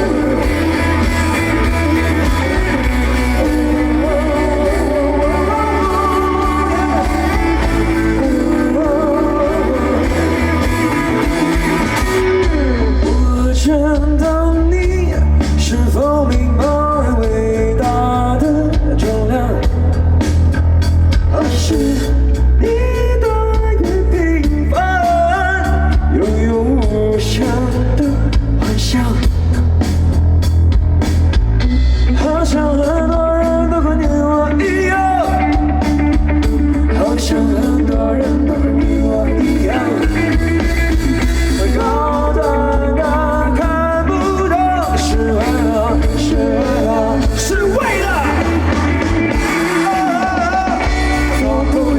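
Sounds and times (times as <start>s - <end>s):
person singing: 0.0s - 20.1s, 21.2s - 29.6s, 32.0s - 51.9s
pop-rock band playing: 0.0s - 51.9s.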